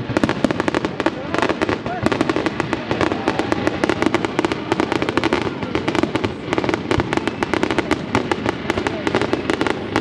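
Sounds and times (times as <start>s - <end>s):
fireworks banging and crackling: 0.0s - 10.0s.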